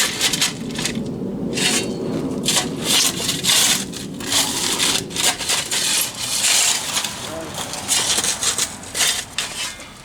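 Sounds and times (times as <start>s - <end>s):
shovels scraping into soil: 0.0s - 10.0s.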